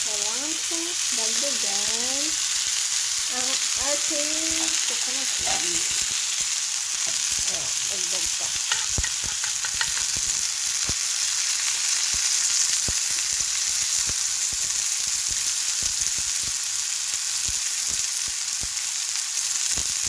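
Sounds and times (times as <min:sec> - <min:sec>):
oil popping and crackling: 0:00.0 - 0:20.0
sausages sizzling in a pan: 0:00.0 - 0:20.0.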